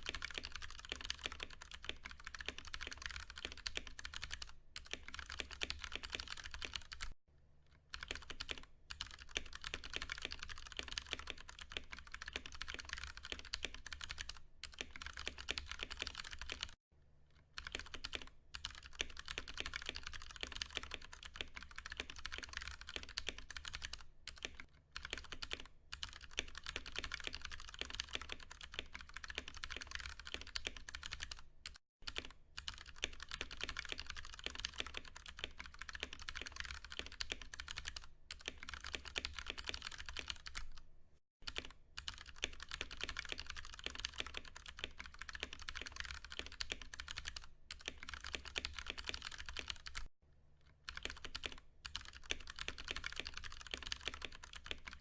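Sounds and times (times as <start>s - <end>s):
mechanical keyboard typing: 0.0s - 7.2s, 7.9s - 16.8s, 17.6s - 40.8s, 41.4s - 50.1s, 50.8s - 55.0s.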